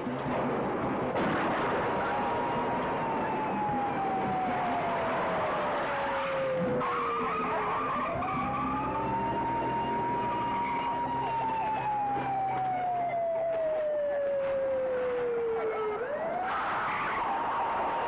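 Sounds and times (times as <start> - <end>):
car engines: 0.0 - 18.0
police siren wailing: 1.3 - 18.0.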